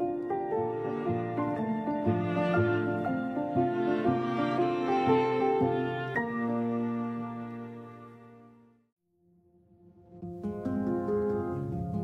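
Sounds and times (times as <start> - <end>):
calm instrumental music: 0.0 - 8.8, 10.0 - 12.0.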